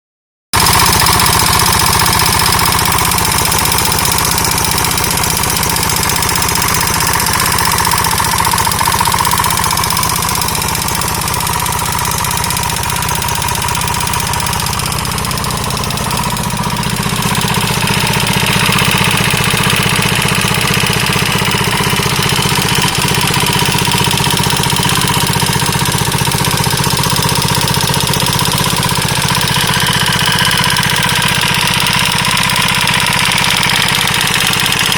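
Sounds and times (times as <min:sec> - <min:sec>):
engine knocking: 0:00.5 - 0:34.9.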